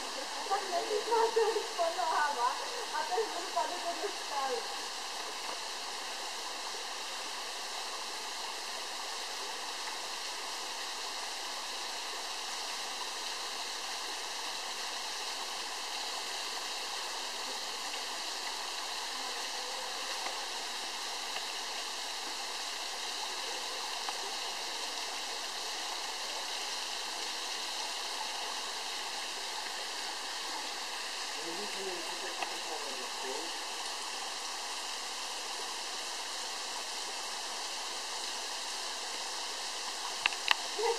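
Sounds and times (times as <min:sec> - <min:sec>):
waterfall rushing into pool: 0:00.0 - 0:40.9.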